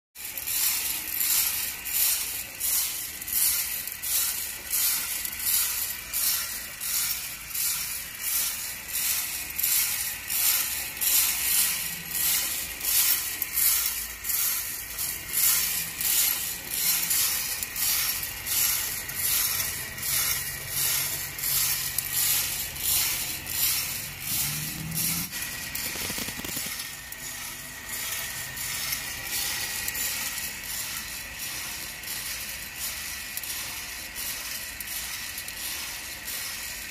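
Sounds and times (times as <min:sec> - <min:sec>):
coffee beans rattling in a drum: 0:00.2 - 0:36.9.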